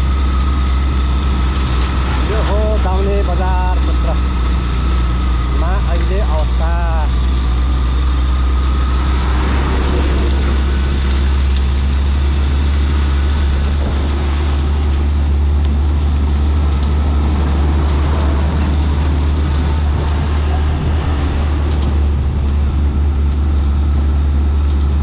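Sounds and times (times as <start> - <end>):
road noise: 0.0 - 25.0
vehicle engine drone: 0.0 - 25.0.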